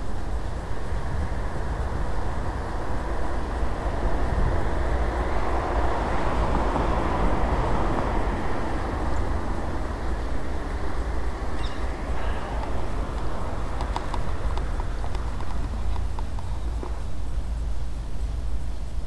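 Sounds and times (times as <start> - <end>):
road rumble: 0.0 - 19.0
wind rushing over microphone: 0.0 - 19.0.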